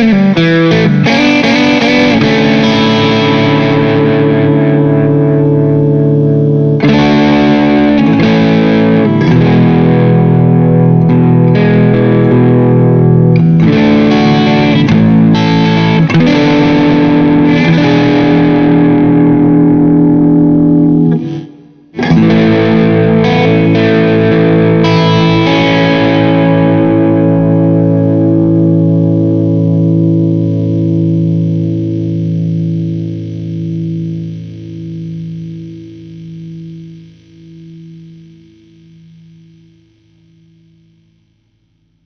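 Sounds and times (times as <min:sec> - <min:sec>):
distorted electric guitar chords: 0:00.0 - 0:42.0.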